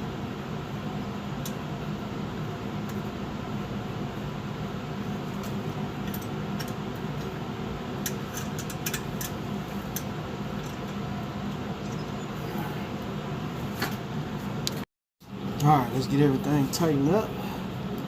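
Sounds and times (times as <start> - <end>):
mechanical fan hum: 0.0 - 18.0.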